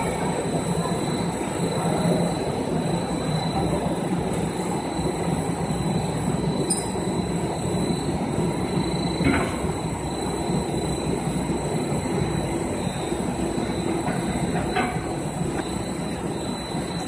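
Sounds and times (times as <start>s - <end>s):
faint high whine: 0.0s - 17.0s
rumbling machine drone: 0.0s - 17.0s.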